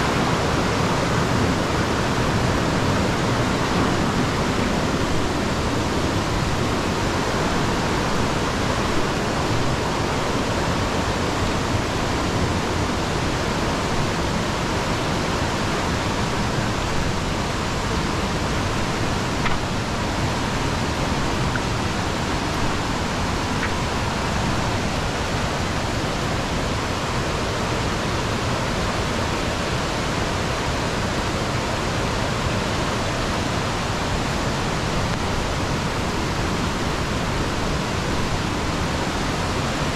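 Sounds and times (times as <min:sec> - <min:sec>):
rush of falling water: 0:00.0 - 0:39.9.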